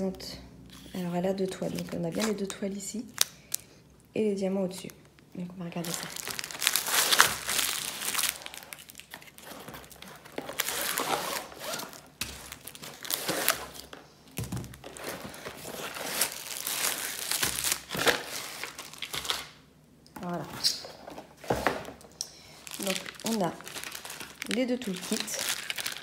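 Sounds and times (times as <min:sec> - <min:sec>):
plastic wrapping crinkling: 0:00.0 - 0:03.8, 0:04.7 - 0:19.6, 0:20.6 - 0:26.0.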